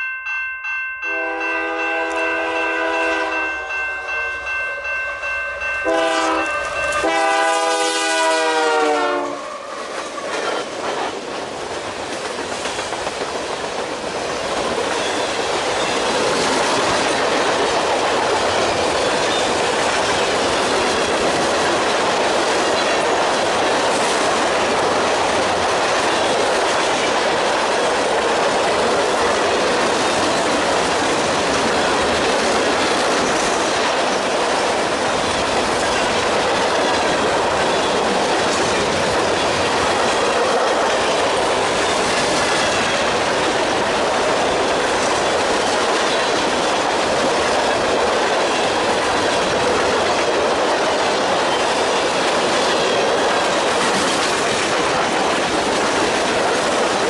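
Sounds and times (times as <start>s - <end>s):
freight train wheels rolling on rails: 0.0s - 57.0s.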